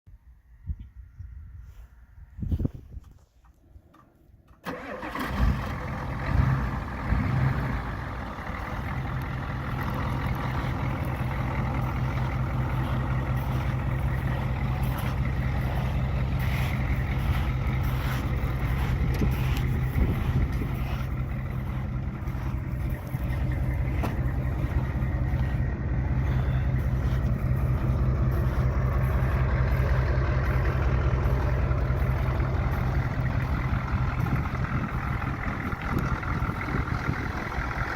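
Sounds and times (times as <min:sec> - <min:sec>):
diesel engine starting and idling: 0:03.7 - 0:37.9.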